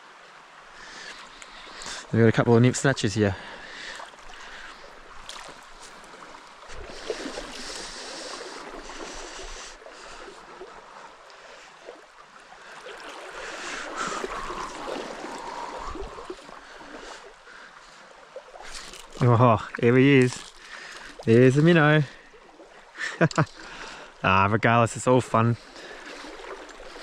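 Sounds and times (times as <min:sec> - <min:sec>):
river water trickling: 0:00.0 - 0:27.0.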